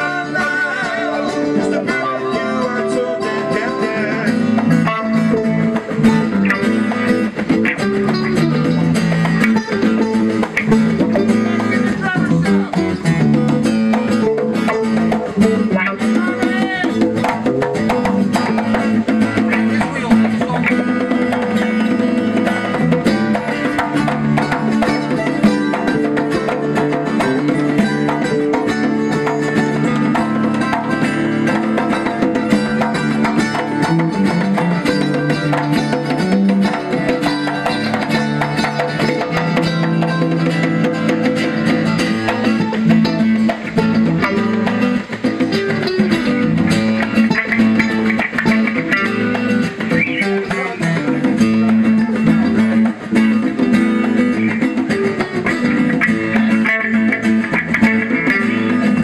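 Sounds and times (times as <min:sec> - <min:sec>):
congas: 0:00.0 - 0:59.0
electric bass guitar: 0:00.0 - 0:59.0
mandolin: 0:00.0 - 0:59.0
strummed acoustic guitar: 0:00.0 - 0:59.0.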